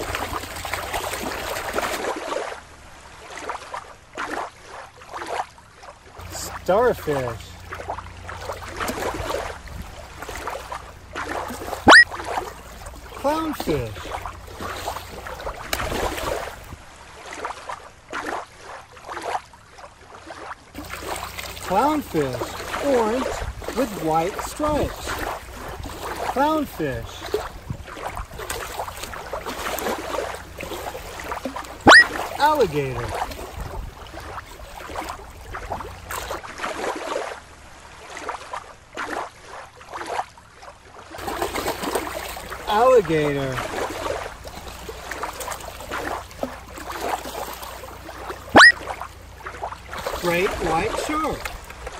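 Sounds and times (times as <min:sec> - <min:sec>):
shallow water splashing: 0:00.0 - 0:51.9.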